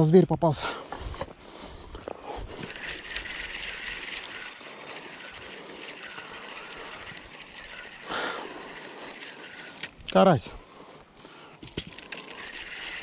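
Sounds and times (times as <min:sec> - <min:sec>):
fishing reel whirring: 0:00.8 - 0:13.0.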